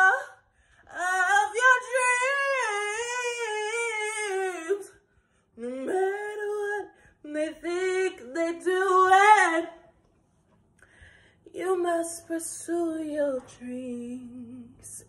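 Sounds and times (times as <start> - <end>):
woman singing unaccompanied: 0.0 - 5.0, 5.6 - 9.8, 11.5 - 15.0.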